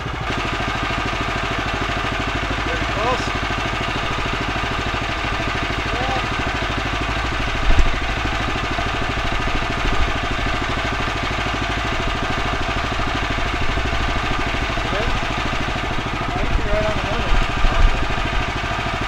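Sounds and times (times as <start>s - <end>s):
sawmill engine idling: 0.0s - 19.0s.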